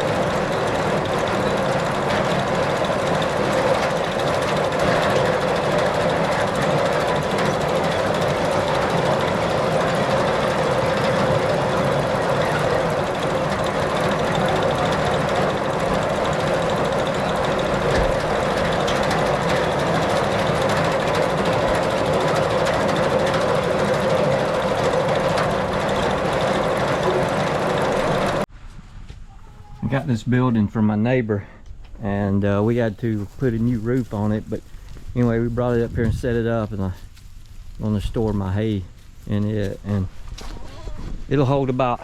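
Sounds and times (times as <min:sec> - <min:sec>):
vehicle engine running: 0:00.0 - 0:30.7, 0:32.0 - 0:42.0.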